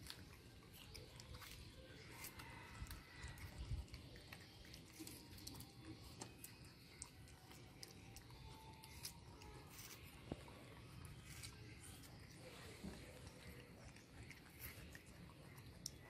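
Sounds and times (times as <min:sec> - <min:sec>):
monkeys chewing fruit: 0:00.0 - 0:16.0.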